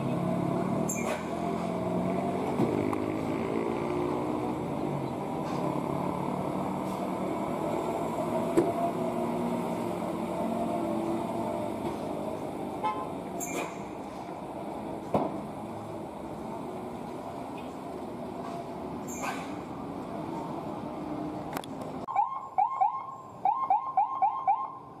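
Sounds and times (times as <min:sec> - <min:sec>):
truck diesel engine under load: 0:00.0 - 0:22.1.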